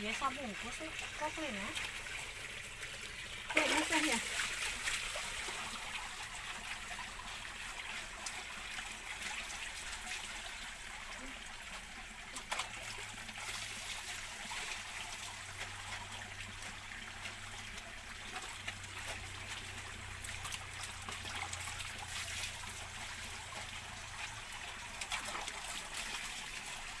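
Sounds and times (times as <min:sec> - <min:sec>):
water trickling and splashing: 0:00.0 - 0:27.0.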